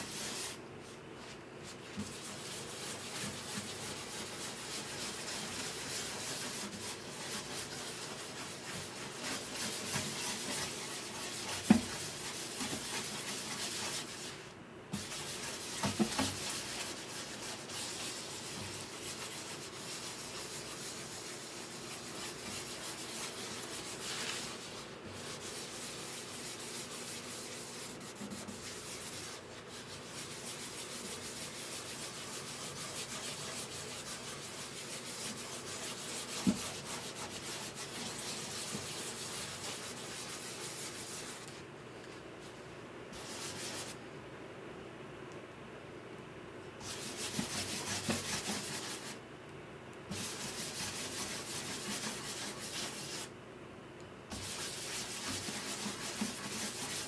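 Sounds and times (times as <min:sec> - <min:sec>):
hand sanding wood: 0:00.0 - 0:00.6, 0:01.8 - 0:41.6, 0:43.2 - 0:44.0, 0:46.8 - 0:49.2, 0:50.1 - 0:53.3, 0:54.3 - 0:57.0.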